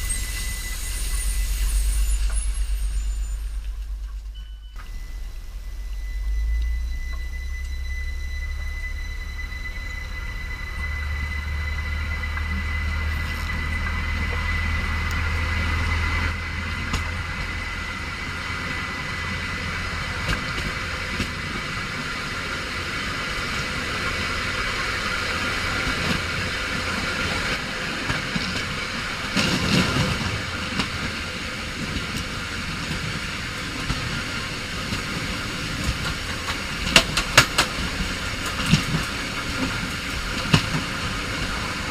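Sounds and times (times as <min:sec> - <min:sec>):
high wheel squeal: 0:00.0 - 0:41.9
loud rush of train: 0:00.0 - 0:41.9
train rumbling on track: 0:00.0 - 0:41.9.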